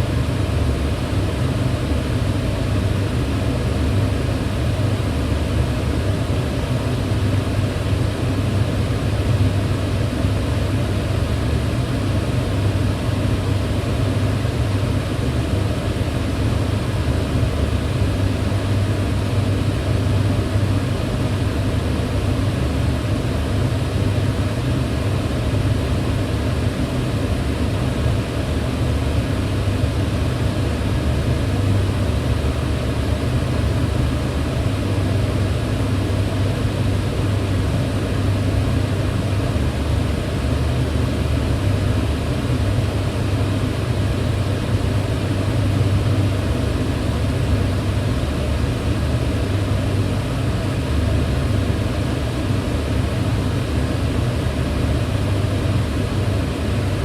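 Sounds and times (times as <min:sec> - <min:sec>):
range hood fan whirring: 0:00.0 - 0:57.0.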